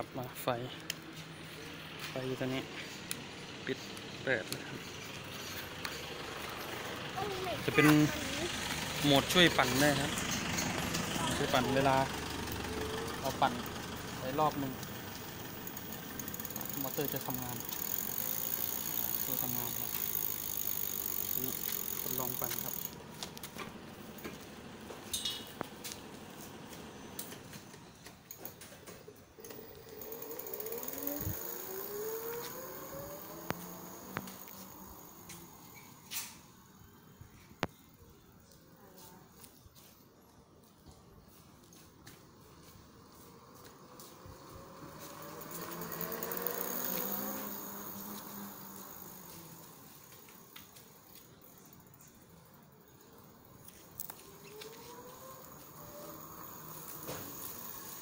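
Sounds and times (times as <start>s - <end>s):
electric bicycle motor whining: 1.4s - 28.1s, 29.3s - 37.9s, 42.1s - 58.0s.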